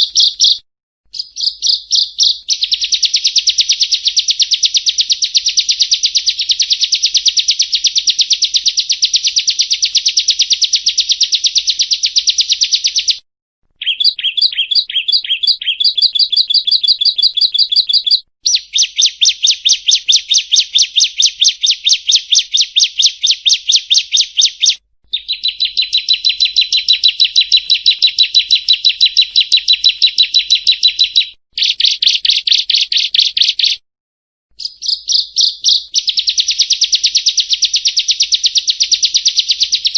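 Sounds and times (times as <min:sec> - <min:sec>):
bird calling high chip notes: 0:00.0 - 0:13.2, 0:13.8 - 0:33.8, 0:34.6 - 0:39.9.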